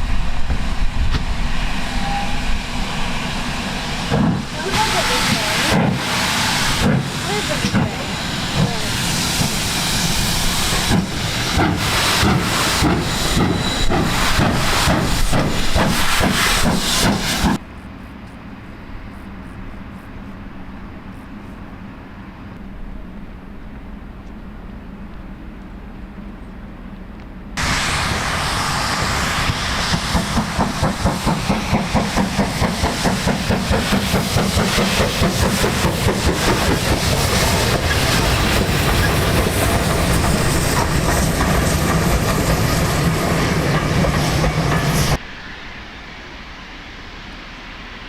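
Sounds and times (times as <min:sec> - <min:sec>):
steam locomotive hissing: 0:00.0 - 0:23.7, 0:27.6 - 0:48.0
steam locomotive chuffs: 0:00.0 - 0:26.6, 0:27.4 - 0:48.0.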